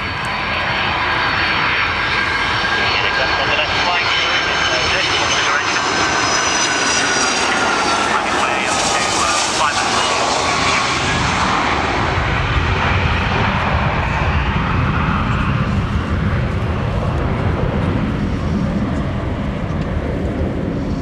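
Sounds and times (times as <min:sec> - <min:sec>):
jet aircraft flying past: 0:00.0 - 0:21.0.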